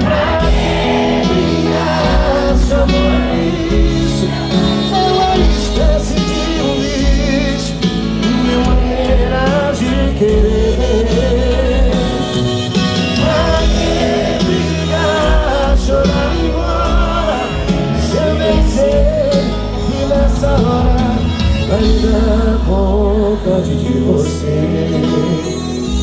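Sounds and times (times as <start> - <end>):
live band playing: 0.0 - 26.0
steady bass: 0.0 - 26.0
sung vocals: 0.0 - 26.0.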